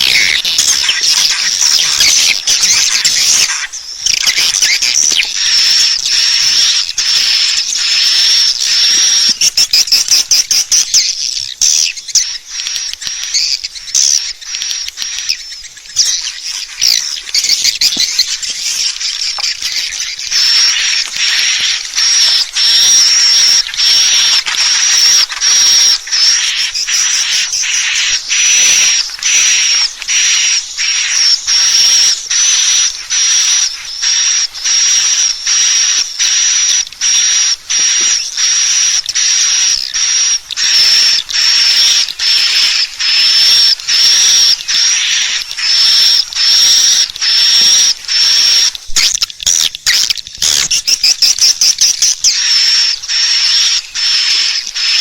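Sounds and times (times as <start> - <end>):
swiftlets twittering: 0.0 - 55.0.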